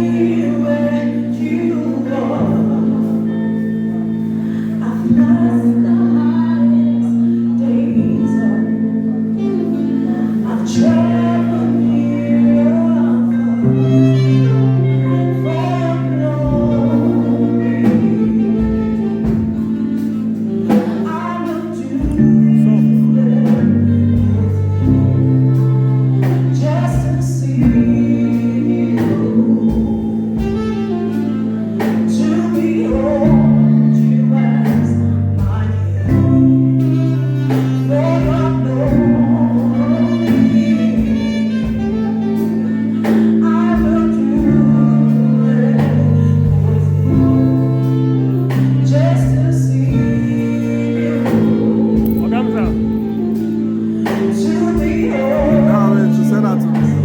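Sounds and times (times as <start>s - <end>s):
instrumental accompaniment with beat: 0.0s - 57.0s
person singing: 0.0s - 57.0s.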